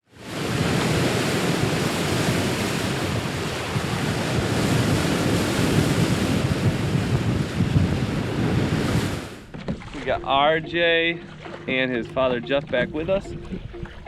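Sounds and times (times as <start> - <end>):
ocean waves: 0.0 - 14.0
wind buffeting microphone: 0.2 - 10.7, 12.4 - 14.0.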